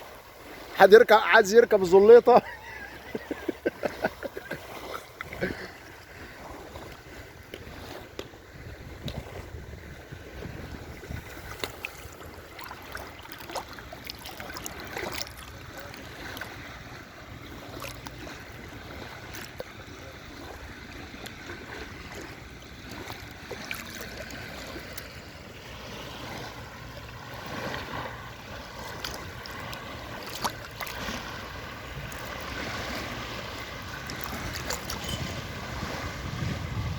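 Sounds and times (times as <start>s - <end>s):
sea waves washing in: 0.0s - 36.9s
wind: 0.0s - 36.9s.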